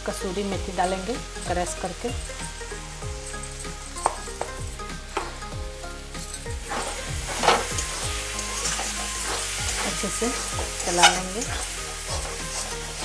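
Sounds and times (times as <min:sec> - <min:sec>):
food sizzling in a pan: 0:00.0 - 0:13.0
spatula scraping a pan: 0:00.7 - 0:13.0.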